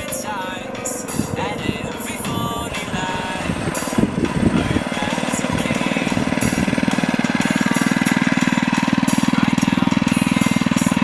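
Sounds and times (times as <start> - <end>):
small engine chugging: 0.0 - 11.0.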